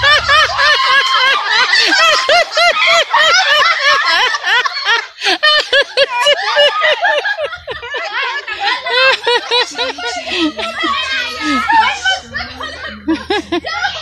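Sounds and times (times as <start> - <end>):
people laughing high-pitched: 0.0 - 14.0.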